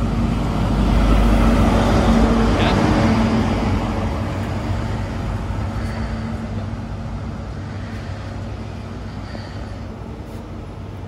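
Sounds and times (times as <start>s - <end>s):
diesel train engine: 0.0s - 11.0s
train wheel noise: 0.0s - 11.0s.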